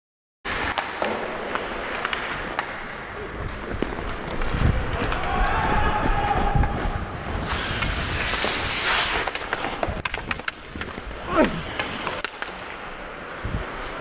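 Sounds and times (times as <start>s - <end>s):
sticks and pucks hitting ice: 0.5s - 6.9s, 7.5s - 12.9s
skate blades scraping ice: 0.5s - 14.0s.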